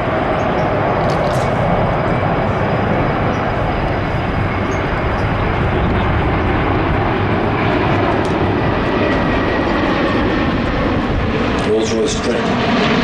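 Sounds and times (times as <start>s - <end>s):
faint whine: 0.0s - 12.8s
jet airliner flying: 0.0s - 13.0s.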